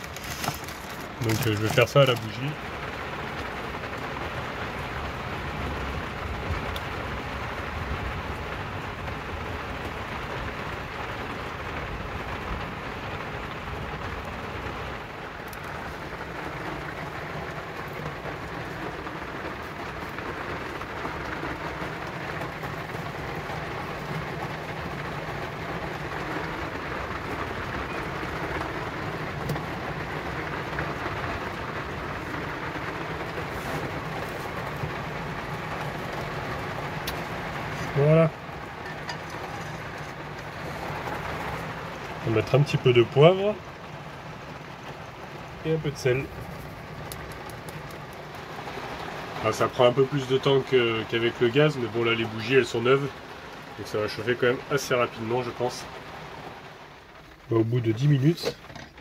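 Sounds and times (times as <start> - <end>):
heavy rain on a vehicle roof: 0.0 - 59.0.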